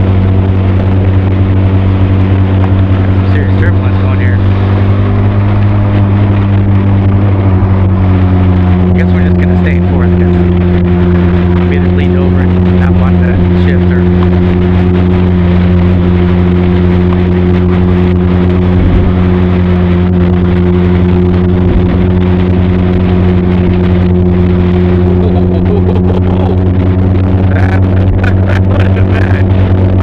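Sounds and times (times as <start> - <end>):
motorcycle engine and exhaust: 0.0 - 30.0
road and wind noise: 0.0 - 30.0.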